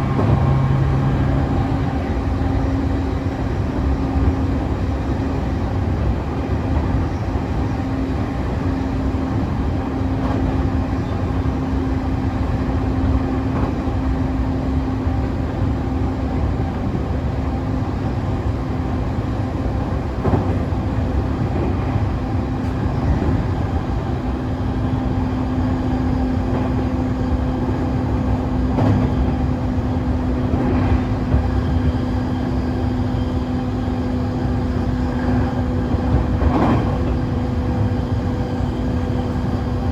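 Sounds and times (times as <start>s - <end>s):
wheels rumbling on track: 0.0s - 39.9s.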